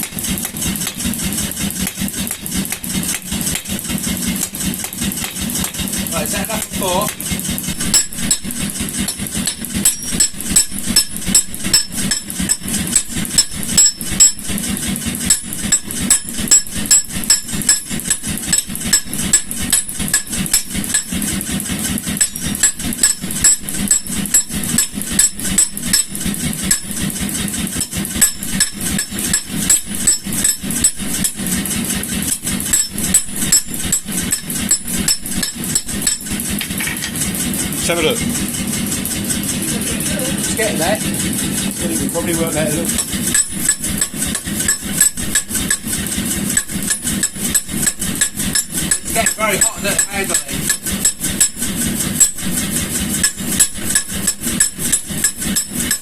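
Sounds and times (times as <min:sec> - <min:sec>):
power hammer motor running: 0:00.0 - 0:56.0
power hammer striking hot steel: 0:00.0 - 0:56.0.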